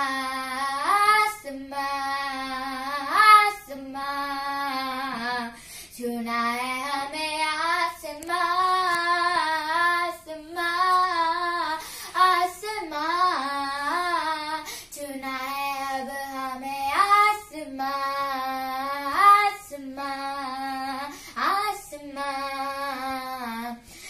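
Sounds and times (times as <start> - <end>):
girl singing unaccompanied: 0.0 - 24.0.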